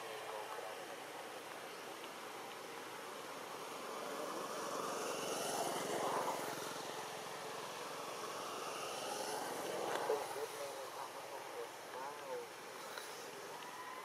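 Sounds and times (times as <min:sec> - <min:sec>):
passing motor engine: 0:00.0 - 0:14.0.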